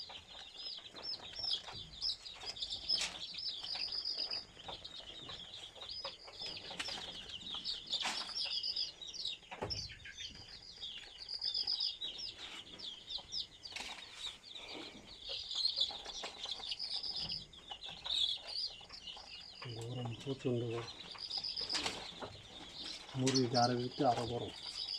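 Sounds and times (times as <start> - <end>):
chicks peeping: 0.0 - 24.9.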